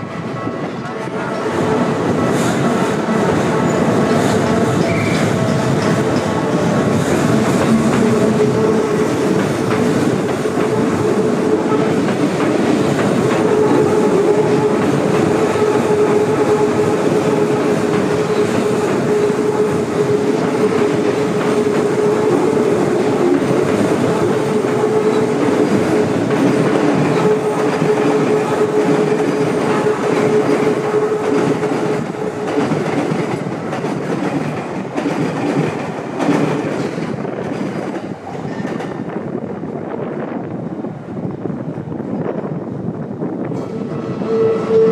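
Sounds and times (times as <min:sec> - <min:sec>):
train hum: 0:00.0 - 0:44.9
train wheels clattering: 0:00.5 - 0:39.1.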